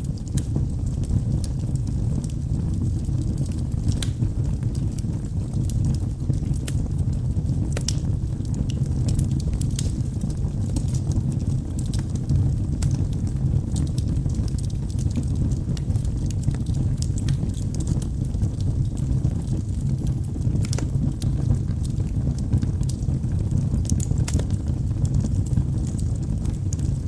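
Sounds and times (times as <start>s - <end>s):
fire flames rumbling: 0.0s - 27.0s
logs crackling and popping: 0.0s - 27.0s.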